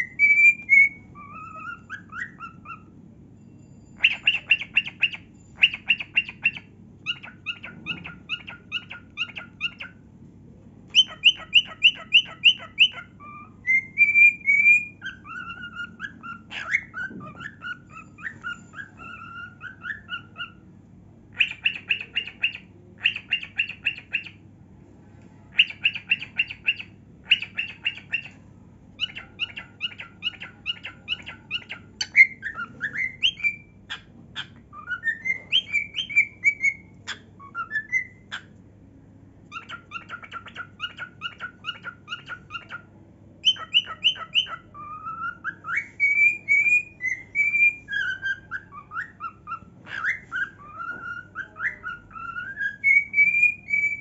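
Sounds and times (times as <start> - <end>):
cockatiel chirping: 0.0 - 3.0, 3.8 - 10.0, 10.9 - 20.6, 21.3 - 24.4, 25.5 - 38.5, 39.5 - 54.0
cockatiel whistling: 0.0 - 3.0, 3.9 - 10.0, 10.9 - 20.6, 21.3 - 24.4, 25.5 - 28.4, 29.0 - 38.5, 39.5 - 54.0.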